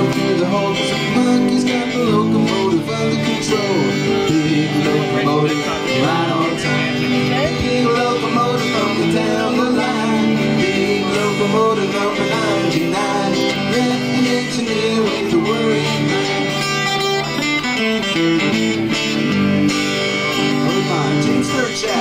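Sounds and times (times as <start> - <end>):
person singing: 0.0 - 17.4, 20.4 - 22.0
acoustic guitars playing: 0.0 - 22.0.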